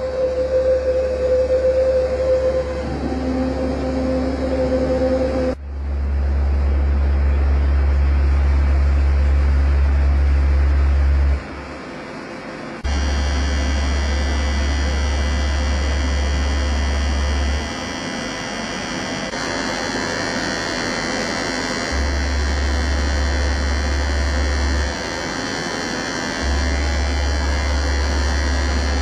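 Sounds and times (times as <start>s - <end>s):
electronic tones droning: 0.0s - 29.0s
loud low hum: 0.0s - 29.0s.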